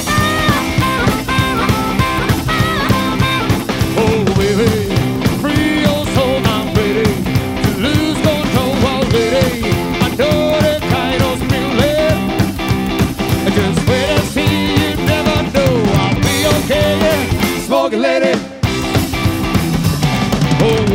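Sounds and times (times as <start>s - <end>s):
harmonica lead line: 0.0s - 20.9s
live band playing: 0.0s - 20.9s.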